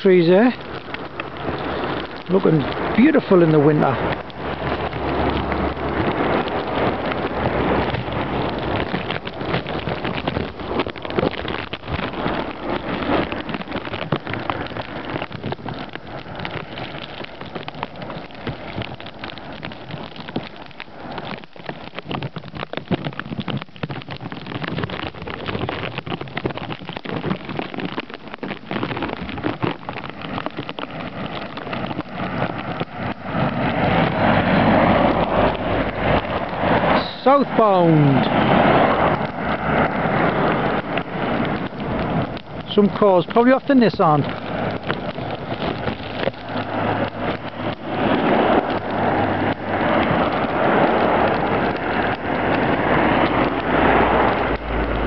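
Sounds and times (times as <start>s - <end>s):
vehicle passing on slushy road: 0.0s - 55.0s
wet snow and wind hitting microphone: 0.0s - 55.0s.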